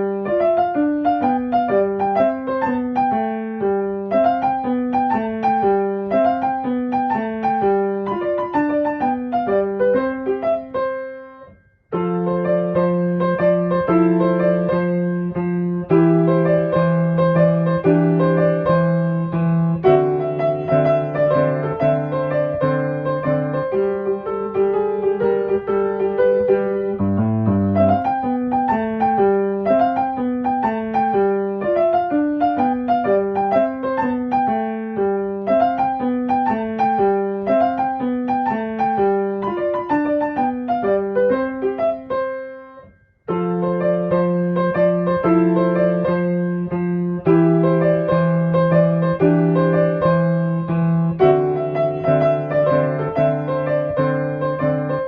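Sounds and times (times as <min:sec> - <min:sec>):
piano broken chords: 0:00.0 - 0:55.0.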